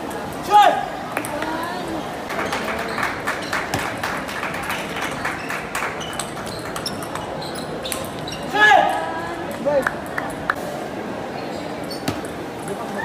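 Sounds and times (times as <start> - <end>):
murmur of crowd: 0.0 - 13.0.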